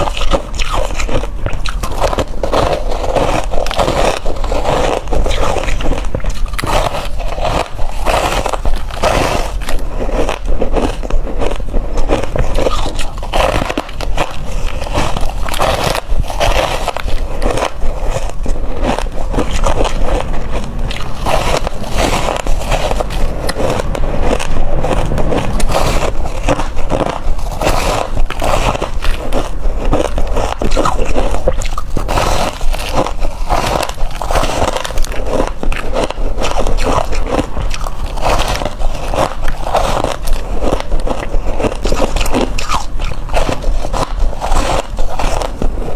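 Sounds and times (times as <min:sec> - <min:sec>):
ice being crunched: 0:00.0 - 0:45.9.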